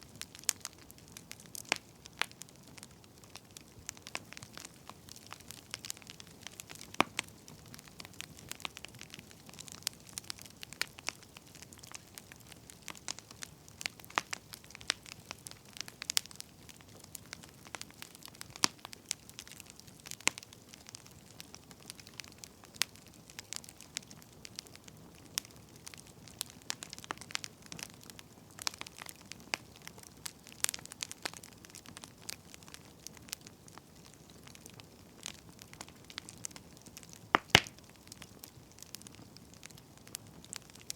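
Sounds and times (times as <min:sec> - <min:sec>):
firewood crackling and popping: 0:00.0 - 0:40.9
low steady hiss of fire: 0:00.0 - 0:40.9.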